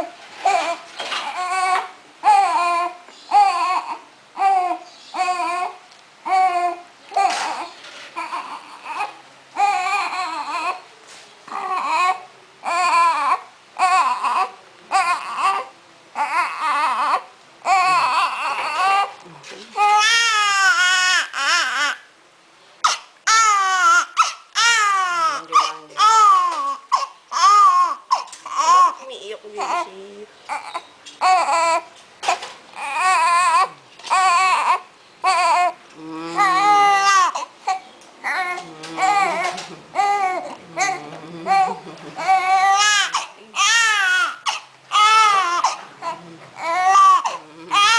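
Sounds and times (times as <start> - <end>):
newborn baby crying: 0.0 - 10.9, 11.5 - 22.1, 22.8 - 47.9.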